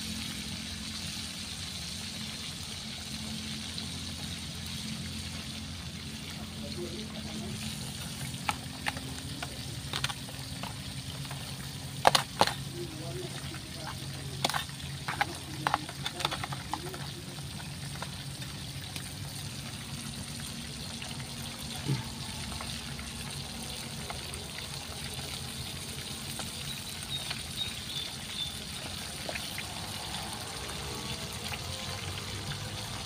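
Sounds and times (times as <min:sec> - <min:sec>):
fish sizzling in oil: 0:00.0 - 0:33.0.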